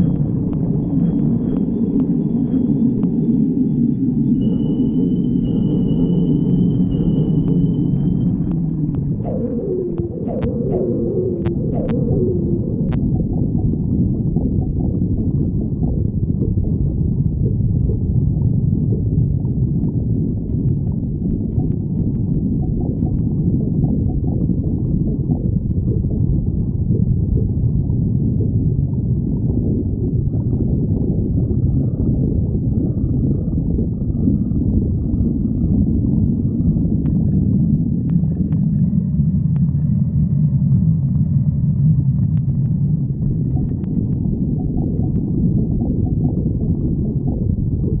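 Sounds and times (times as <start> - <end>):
squeaky stomach gurgles: 4.3 - 48.0
stomach growling: 8.3 - 48.0.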